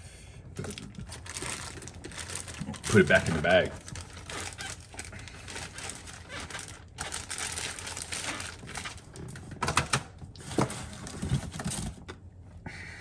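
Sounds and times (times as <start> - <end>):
plastic bag rustling: 0.5 - 12.1.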